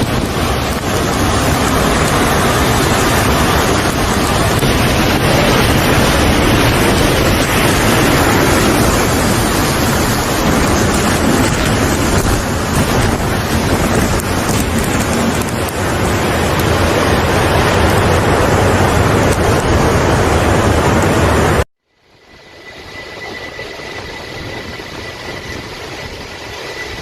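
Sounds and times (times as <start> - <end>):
storm wind rushing: 0.0 - 21.6, 22.4 - 27.0
water rushing: 0.0 - 21.6.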